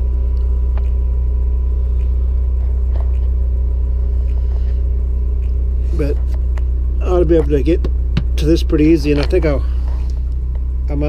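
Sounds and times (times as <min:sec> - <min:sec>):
generator humming: 0:00.0 - 0:11.0.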